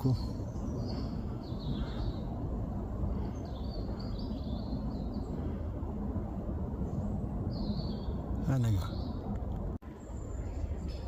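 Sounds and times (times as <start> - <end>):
steady low noise: 0.0 - 11.0.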